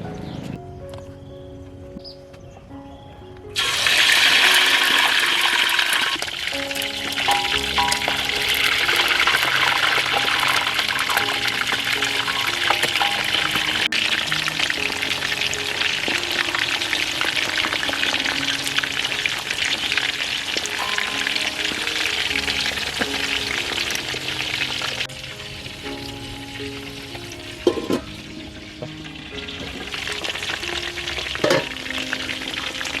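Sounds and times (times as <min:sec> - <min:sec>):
food frying in hot oil: 0:03.6 - 0:33.0.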